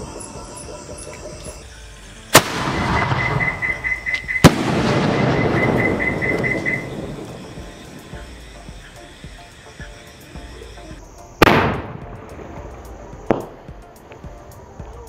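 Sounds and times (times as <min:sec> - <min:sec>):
crackling of falling sparks: 0:00.0 - 0:15.0
fireworks bangs: 0:00.0 - 0:15.0.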